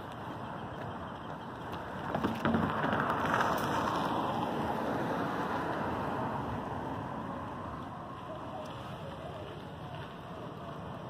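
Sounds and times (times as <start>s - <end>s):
car tyre and road noise: 0.0s - 11.0s.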